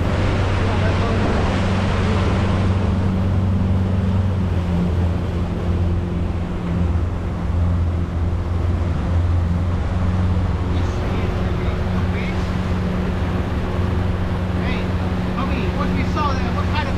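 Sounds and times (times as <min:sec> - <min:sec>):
boat motor humming: 0:00.0 - 0:16.9
rushing water: 0:00.0 - 0:16.9
rushing wind: 0:00.0 - 0:16.9.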